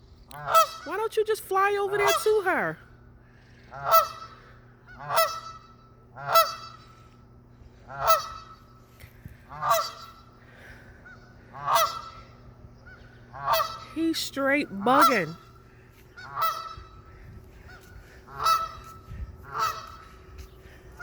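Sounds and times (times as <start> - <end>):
goose honking: 0.3 - 1.2, 1.8 - 2.8, 3.4 - 7.1, 7.7 - 8.8, 9.4 - 21.0.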